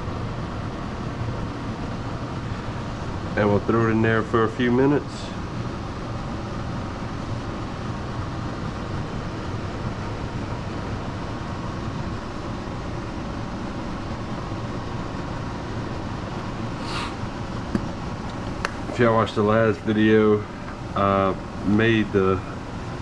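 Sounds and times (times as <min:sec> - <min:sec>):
fan humming: 0:00.0 - 0:23.0.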